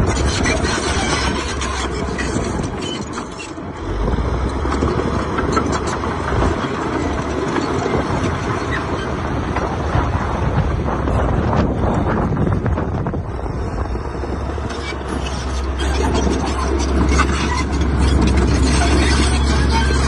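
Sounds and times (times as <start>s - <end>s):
diesel machinery engine rumble: 0.0s - 20.0s.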